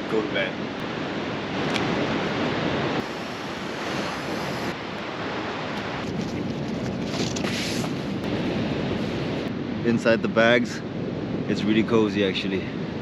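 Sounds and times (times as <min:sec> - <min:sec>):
waves washing on shore: 0:00.0 - 0:11.4.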